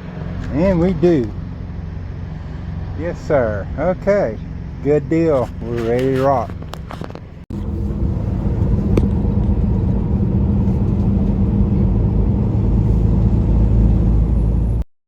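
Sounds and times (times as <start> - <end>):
vehicle engine and road noise: 0.0 - 14.9.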